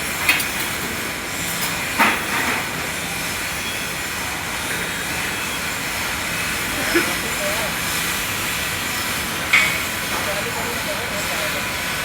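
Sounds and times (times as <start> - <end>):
electric welding arc hissing: 0.0 - 12.0.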